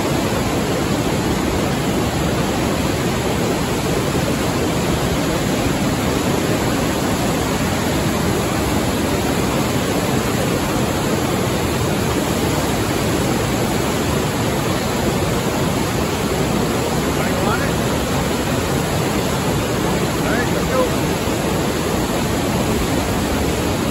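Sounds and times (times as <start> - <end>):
whitewater torrent roaring: 0.0 - 23.9.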